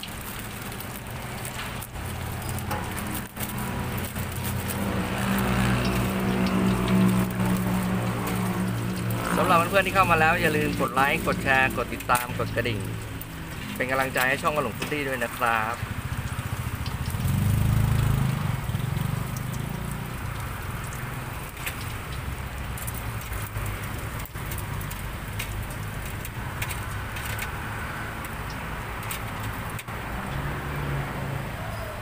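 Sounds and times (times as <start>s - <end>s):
hot oil sizzling: 0.0s - 32.0s.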